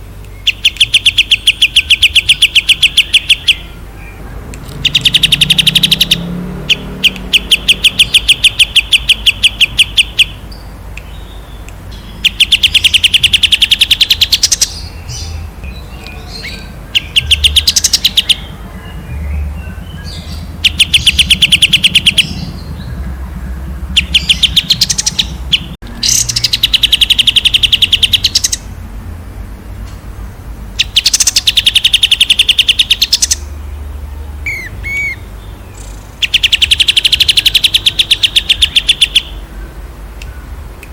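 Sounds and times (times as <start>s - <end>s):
songbird trilling: 0.0s - 28.7s, 30.8s - 40.6s.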